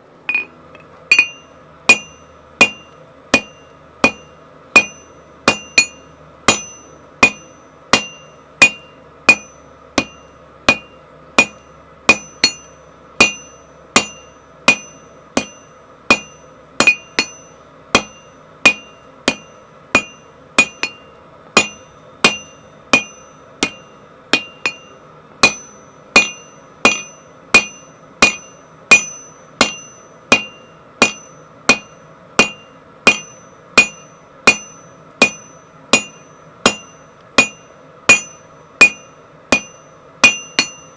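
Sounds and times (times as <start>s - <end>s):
hammer striking steel on anvil: 0.3s - 40.9s.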